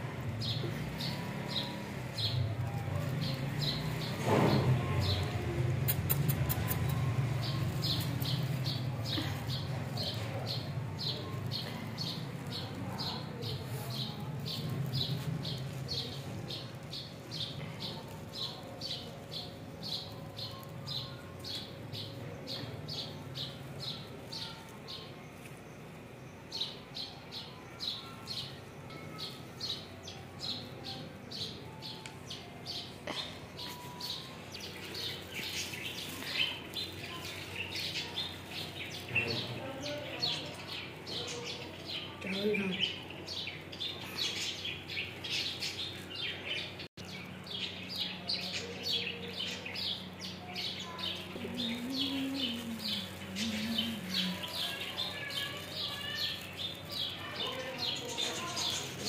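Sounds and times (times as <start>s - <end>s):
other birds chirping: 0.2s - 59.0s
small bird chirping: 3.2s - 30.6s, 33.6s - 59.0s.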